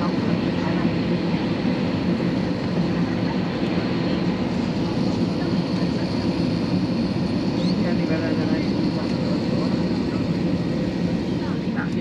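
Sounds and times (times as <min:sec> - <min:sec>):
aircraft cabin air hum: 0:00.0 - 0:12.0.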